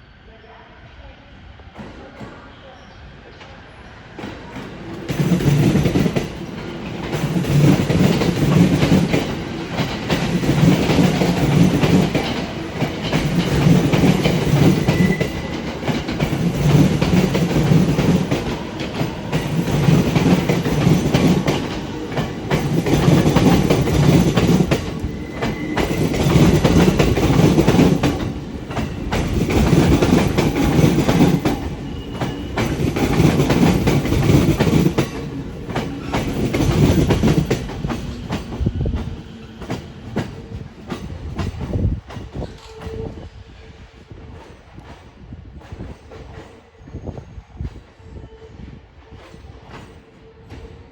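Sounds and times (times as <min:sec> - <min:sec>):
train wheels clacking over rail joints: 0:04.2 - 0:43.2, 0:44.3 - 0:46.7, 0:49.1 - 0:50.9.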